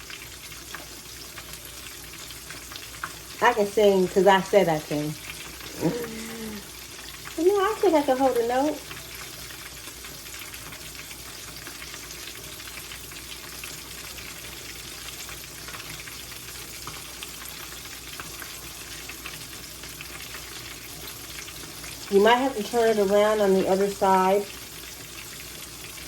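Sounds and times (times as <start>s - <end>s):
fish sizzling in a skillet: 0.0s - 26.0s.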